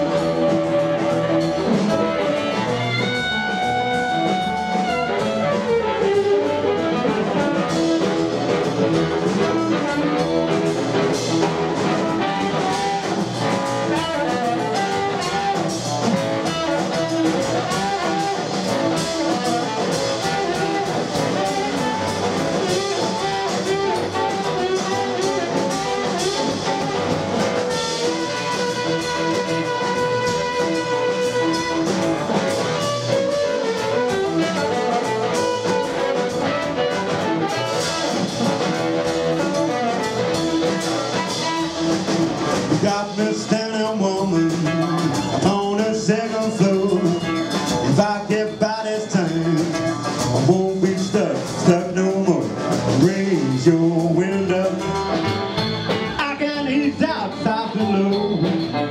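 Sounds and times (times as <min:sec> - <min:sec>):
amplified harmonica solo: 0:00.0 - 0:50.4, 0:54.3 - 0:58.9
blues band playing: 0:00.0 - 0:58.9.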